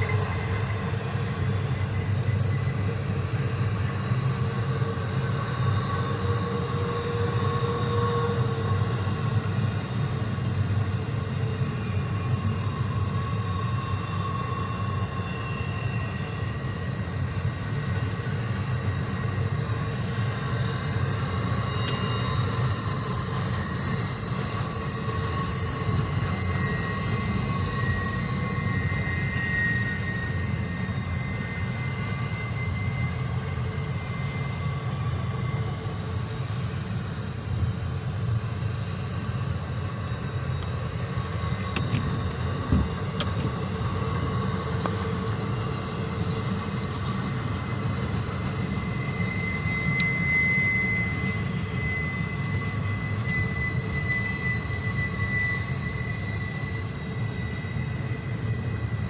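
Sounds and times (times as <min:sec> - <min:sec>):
freight train rumble: 0:00.0 - 0:59.0
metallic wheel squeal: 0:00.0 - 0:59.0.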